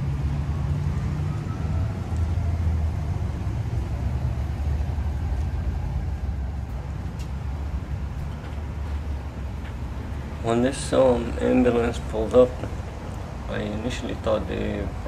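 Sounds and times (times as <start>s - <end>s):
engine idling low rumble: 0.0s - 15.0s.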